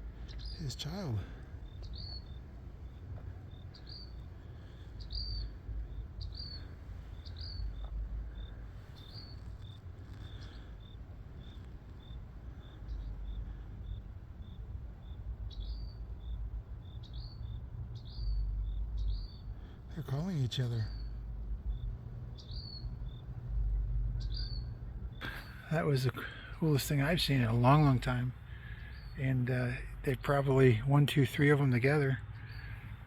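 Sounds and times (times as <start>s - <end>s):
small birds calling: 0.0s - 33.0s.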